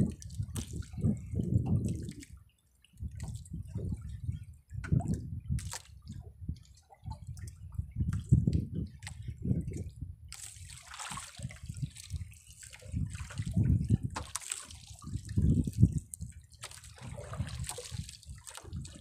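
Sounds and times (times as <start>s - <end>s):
sea water lapping against boat hull: 0.0s - 19.0s.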